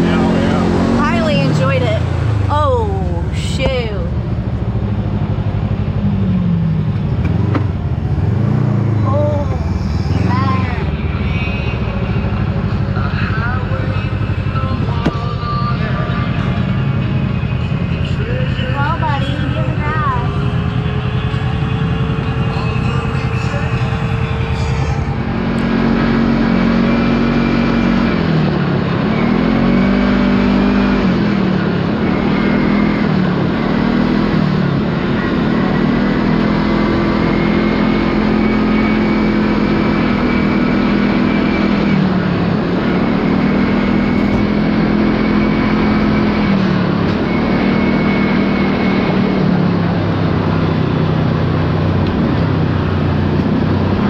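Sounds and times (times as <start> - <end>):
engine revving: 0.0 - 54.0.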